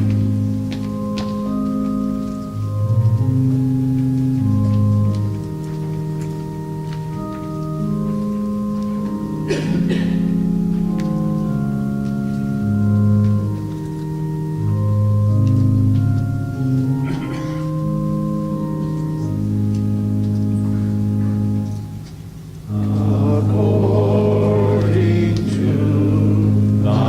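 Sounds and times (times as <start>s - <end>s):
organ playing a hymn: 0.0s - 27.0s.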